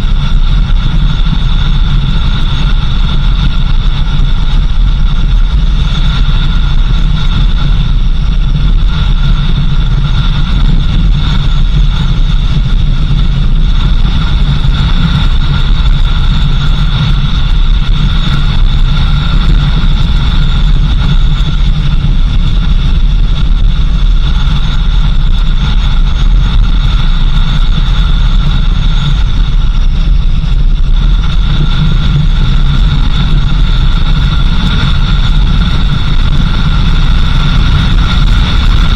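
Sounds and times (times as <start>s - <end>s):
constant high whine: 0.0s - 38.9s
vehicle engine and road rumble: 0.0s - 38.9s.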